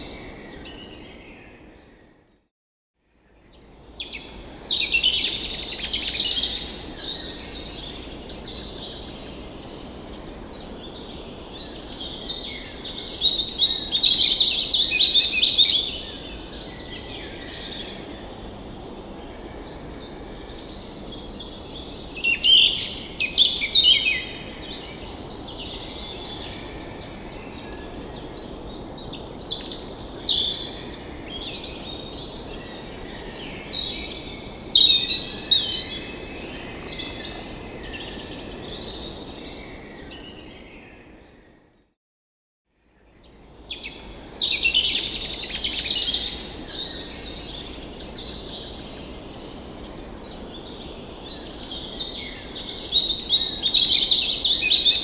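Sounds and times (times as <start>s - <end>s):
songbirds singing and chirping: 3.5s - 41.7s, 43.0s - 55.0s.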